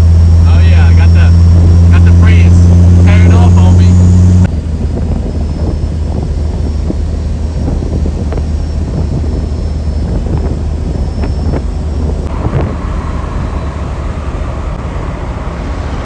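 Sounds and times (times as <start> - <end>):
vehicle engine humming: 0.0 - 16.0
wind buffeting microphone: 1.2 - 2.0, 4.0 - 16.0.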